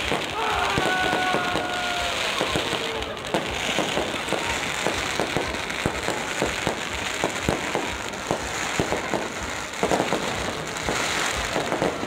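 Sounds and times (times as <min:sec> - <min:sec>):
fireworks hissing crackle: 0:00.0 - 0:12.0
fireworks popping: 0:00.0 - 0:12.0.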